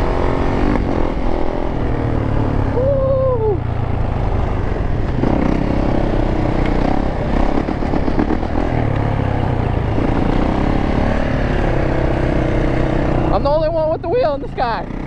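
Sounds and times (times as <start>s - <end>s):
dirt bike engines running: 0.0s - 15.0s.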